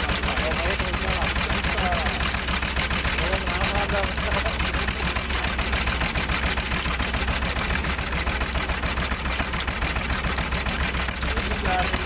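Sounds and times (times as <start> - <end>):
engine chugging: 0.0 - 12.0.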